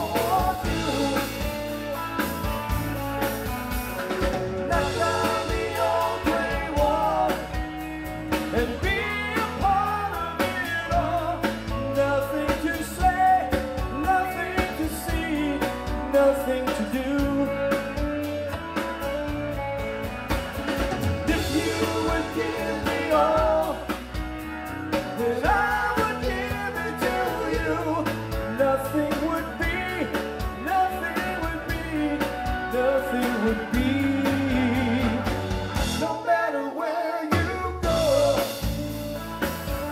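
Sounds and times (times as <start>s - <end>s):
lead singer singing: 0.0s - 1.9s, 4.6s - 18.2s, 21.2s - 38.8s
drum kit: 0.0s - 39.9s
electric guitars: 0.0s - 39.9s
live rock band playing: 0.0s - 39.9s.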